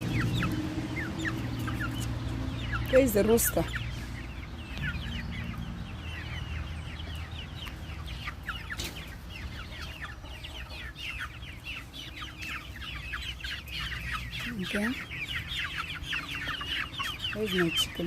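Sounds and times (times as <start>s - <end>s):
young chickens peeping: 0.0s - 18.0s.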